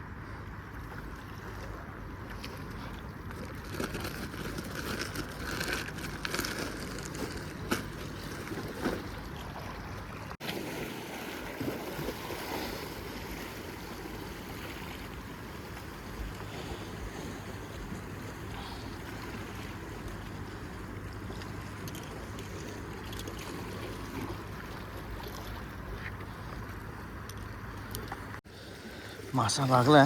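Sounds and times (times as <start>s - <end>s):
lapping water: 0.1s - 30.0s.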